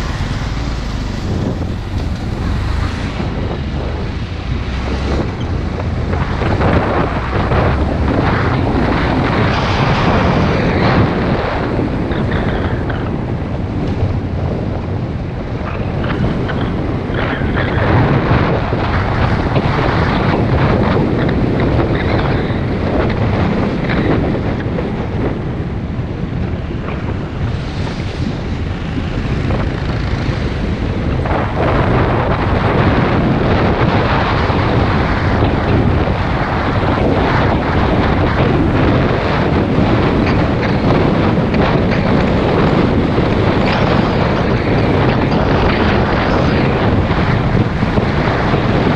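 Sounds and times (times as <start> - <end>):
road noise: 0.0 - 48.9
wind buffeting microphone: 0.0 - 48.9.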